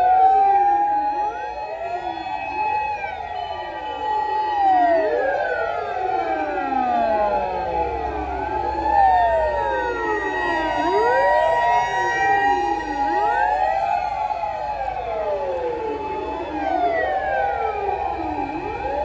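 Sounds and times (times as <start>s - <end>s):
fire engine sirens wailing: 0.0s - 19.0s
truck engines rumbling: 2.0s - 19.0s.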